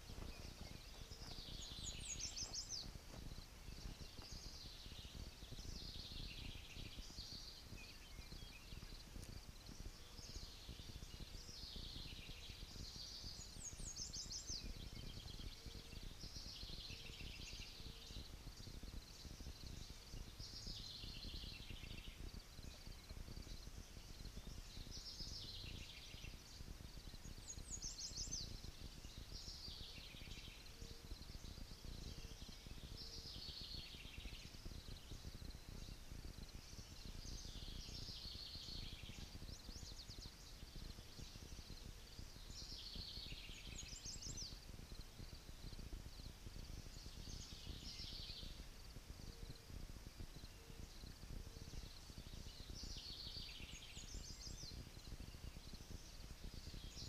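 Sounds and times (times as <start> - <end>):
low wind rumble: 0.0 - 57.0.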